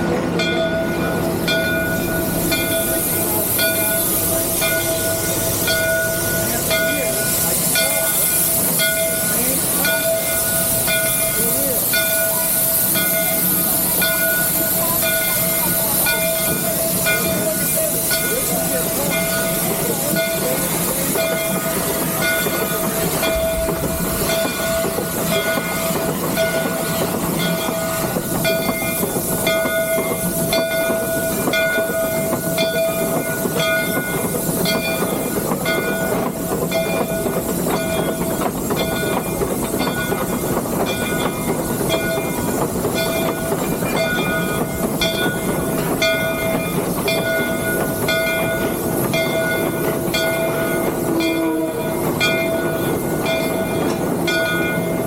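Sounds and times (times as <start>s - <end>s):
steam locomotive rumble and hiss: 0.0s - 55.0s.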